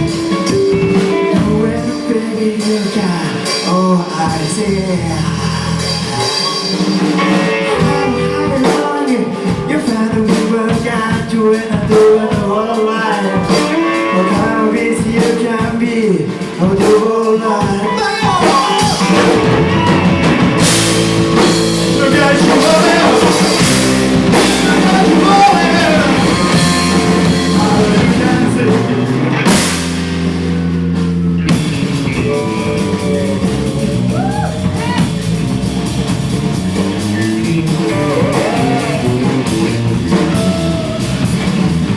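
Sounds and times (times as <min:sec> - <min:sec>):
person singing: 0:00.0 - 0:29.4, 0:32.0 - 0:35.4, 0:37.0 - 0:41.3
drum kit: 0:00.0 - 0:41.9
electric guitar: 0:00.0 - 0:41.9
rock band playing live: 0:00.0 - 0:41.9.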